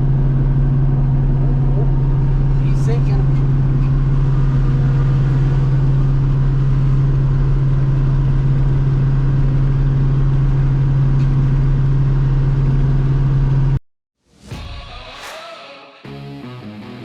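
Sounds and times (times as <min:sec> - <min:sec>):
farm machine engine droning: 0:00.0 - 0:13.8.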